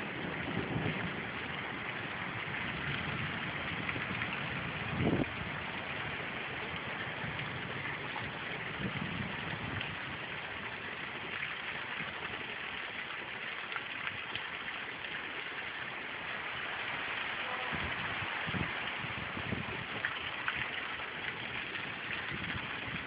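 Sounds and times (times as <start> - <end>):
rain falling steadily: 0.0 - 23.0.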